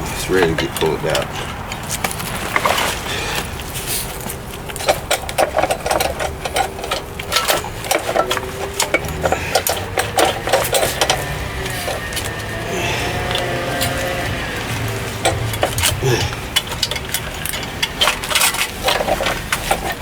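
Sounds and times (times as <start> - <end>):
wiring harness clicks and rattles: 0.0 - 20.0.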